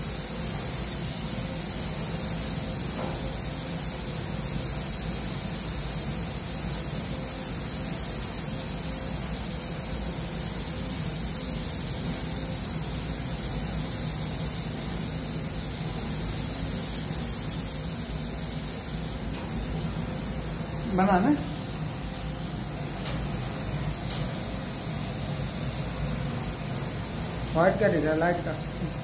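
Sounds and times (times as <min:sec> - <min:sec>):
air hissing in spray booth: 0:00.0 - 0:29.0.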